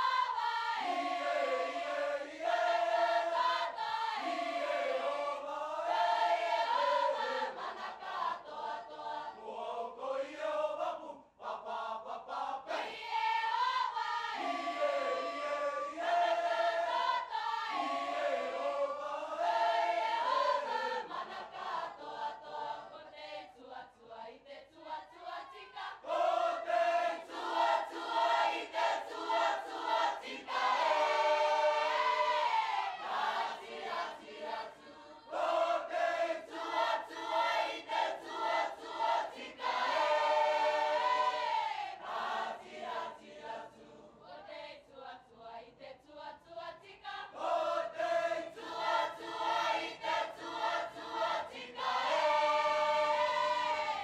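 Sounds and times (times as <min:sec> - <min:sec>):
mixed choir singing in parts: 0:00.0 - 0:54.0.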